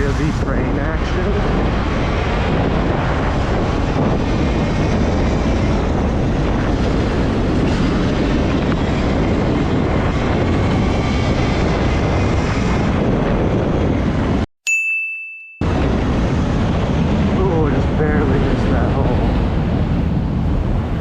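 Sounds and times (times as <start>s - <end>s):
train wheels rumbling on rails: 0.0s - 14.4s, 15.7s - 21.0s.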